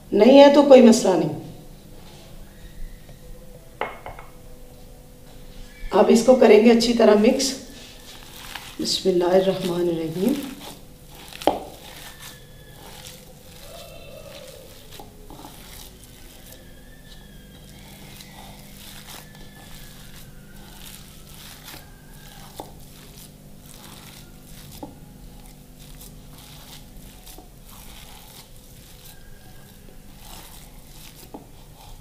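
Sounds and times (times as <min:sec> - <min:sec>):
hand squelching mashed potato: 0:05.6 - 0:32.0.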